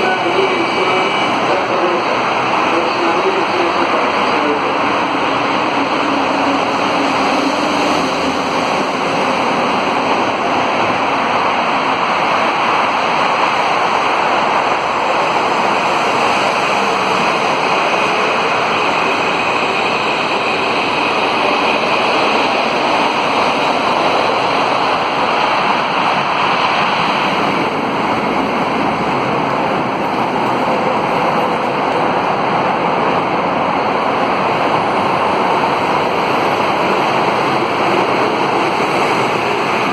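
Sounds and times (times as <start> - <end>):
loud wind-like rushing noise: 0.0 - 39.9.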